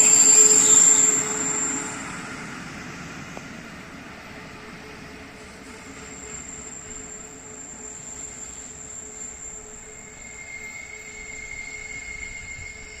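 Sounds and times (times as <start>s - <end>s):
train rumble: 0.0s - 13.0s
train wheels squealing: 0.0s - 13.0s.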